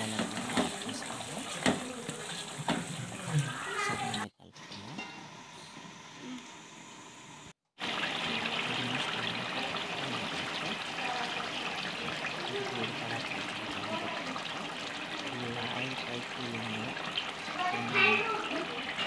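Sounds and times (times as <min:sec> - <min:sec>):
curry bubbling and sizzling: 0:00.0 - 0:04.2, 0:07.8 - 0:19.0.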